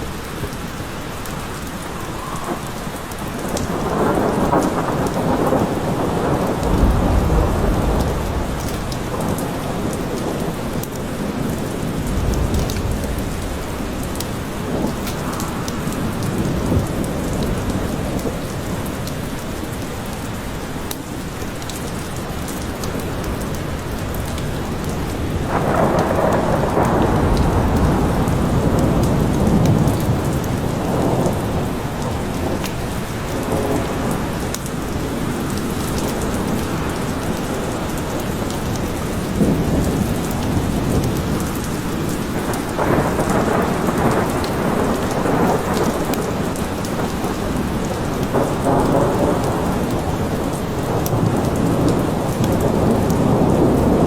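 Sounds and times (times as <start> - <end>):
steady rain in a forest: 0.0 - 54.0
thunder rumbling: 1.3 - 19.0, 22.9 - 54.0.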